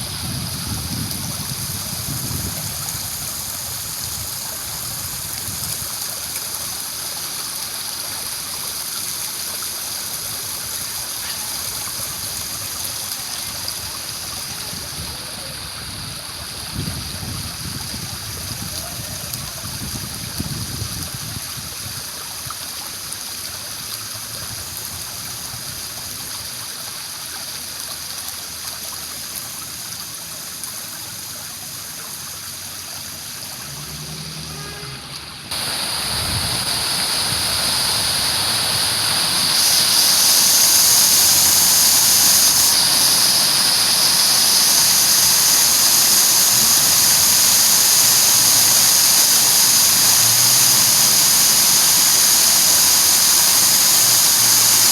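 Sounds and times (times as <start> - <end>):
fountain water rushing and splashing: 0.0 - 54.9.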